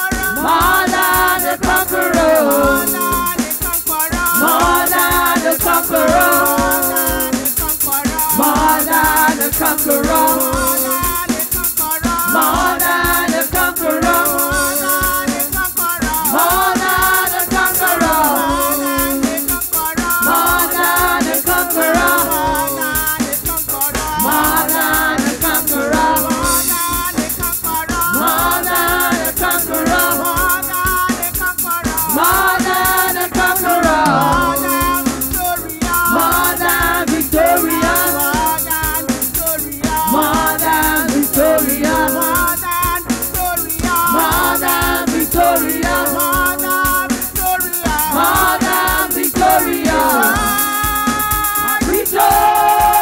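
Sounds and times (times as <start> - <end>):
women singing in harmony: 0.0 - 3.6, 4.3 - 23.2, 23.8 - 26.8, 28.0 - 30.9, 32.0 - 42.7, 44.0 - 53.0
drum kit beat: 0.0 - 53.0
shaker: 0.0 - 53.0.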